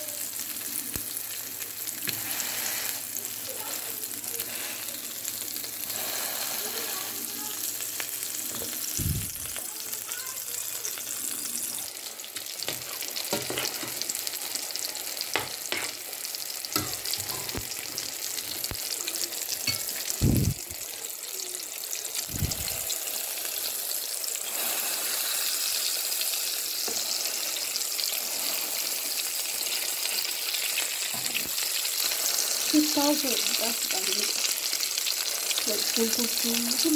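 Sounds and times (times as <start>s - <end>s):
patties sizzling in oil: 0.0s - 36.9s.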